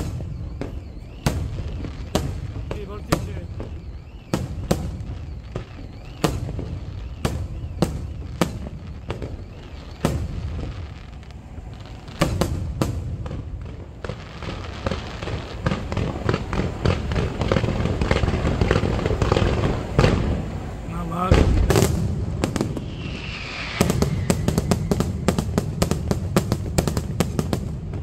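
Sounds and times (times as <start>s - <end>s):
firework shells bursting bangs: 0.0s - 28.0s
quick crackling firework reports: 0.0s - 28.0s.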